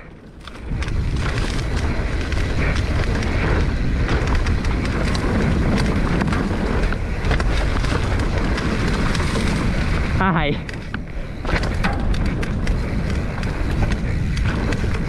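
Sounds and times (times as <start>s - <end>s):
bike rattling over rough ground: 0.0s - 15.0s
bike tyres rumbling on dirt: 0.0s - 15.0s
wind buffeting microphone: 0.0s - 15.0s.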